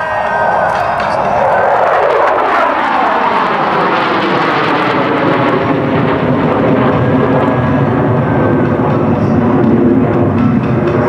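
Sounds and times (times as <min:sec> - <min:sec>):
jet aircraft roaring overhead: 0:00.0 - 0:11.0.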